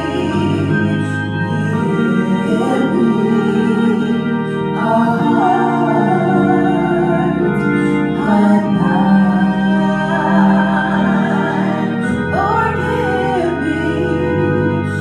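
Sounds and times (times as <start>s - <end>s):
organ playing hymn chords: 0.0s - 15.0s
woman singing: 0.0s - 15.0s.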